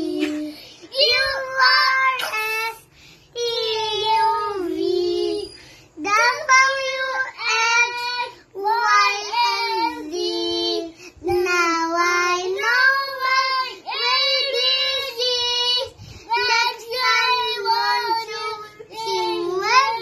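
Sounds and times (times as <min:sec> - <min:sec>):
young children singing: 0:00.0 - 0:20.0.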